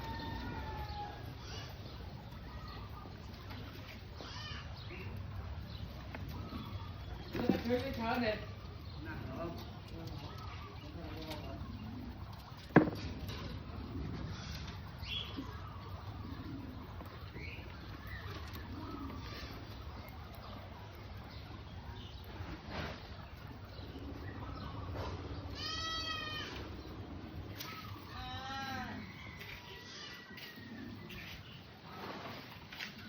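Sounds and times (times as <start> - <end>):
guinea pigs squealing: 0.0 - 33.0
low steady background noise: 0.0 - 33.0.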